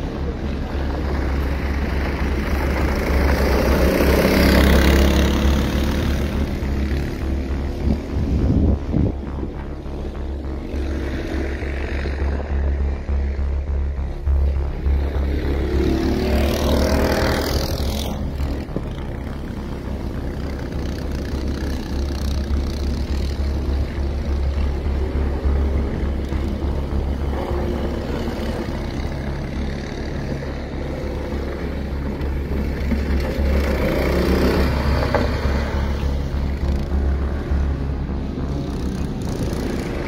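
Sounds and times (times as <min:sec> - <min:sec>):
drone of distant karts: 0:00.0 - 0:40.0
kart engine passing: 0:00.0 - 0:40.0
steady low rumble: 0:00.0 - 0:40.0.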